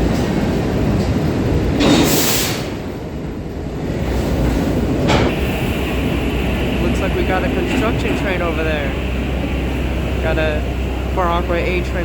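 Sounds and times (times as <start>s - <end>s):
train rumbling through station: 0.0s - 12.0s.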